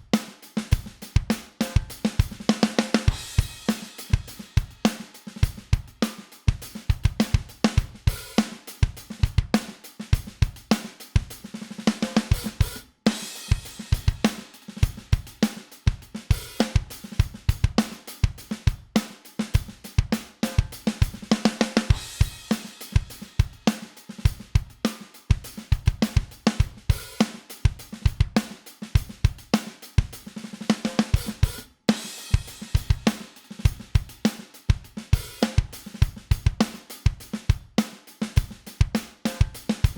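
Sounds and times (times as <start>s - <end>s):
compressed drum kit loop: 0.0s - 39.9s.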